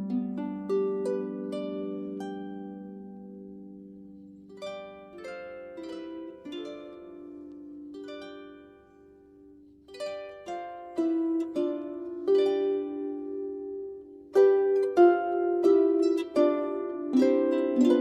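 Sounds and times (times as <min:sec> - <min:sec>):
harp plucked notes: 0:00.0 - 0:18.0.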